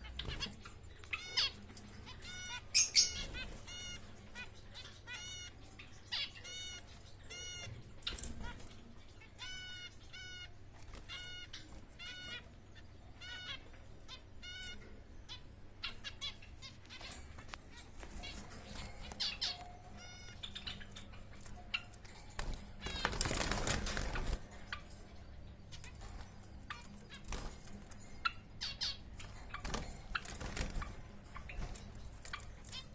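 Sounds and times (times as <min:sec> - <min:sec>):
pet birds squawking: 0:00.0 - 0:32.9.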